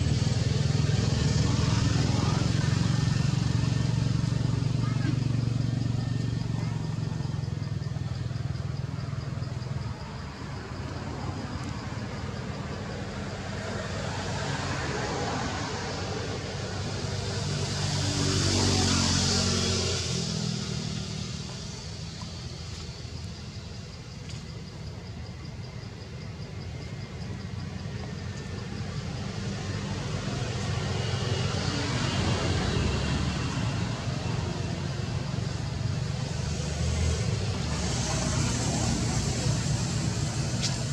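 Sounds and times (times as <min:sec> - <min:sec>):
engine rumble: 0:00.0 - 0:40.9.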